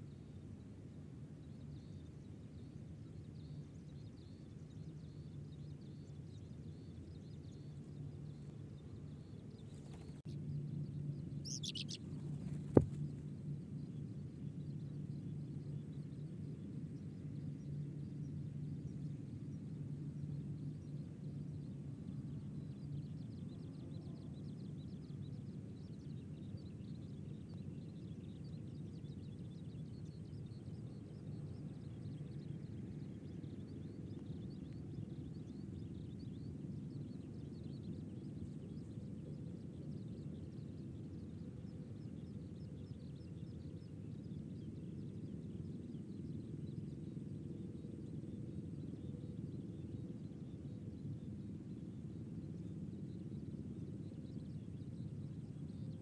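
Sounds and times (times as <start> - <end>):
low outdoor background noise: 0.0 - 56.0.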